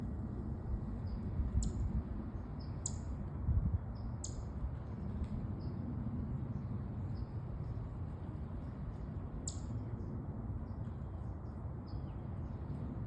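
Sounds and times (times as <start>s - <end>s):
low steady rumble: 0.0s - 13.0s
small birds chirping: 0.9s - 13.0s.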